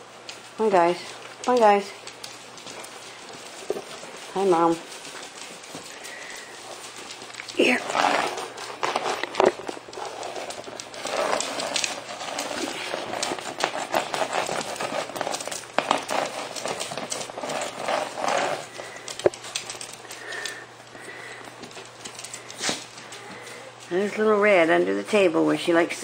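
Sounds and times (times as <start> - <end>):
puppies pattering and scuffling: 0.0 - 26.0.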